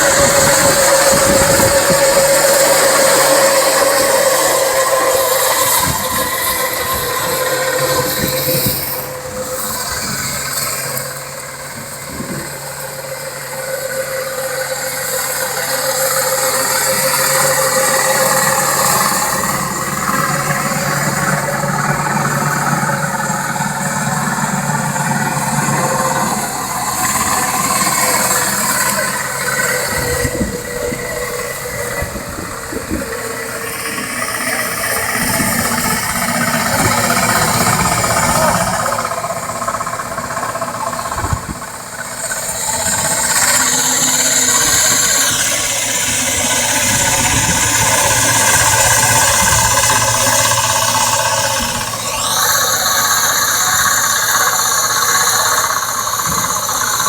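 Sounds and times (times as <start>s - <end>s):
combine harvester running: 0.0s - 57.0s
high machinery whine: 0.0s - 57.0s.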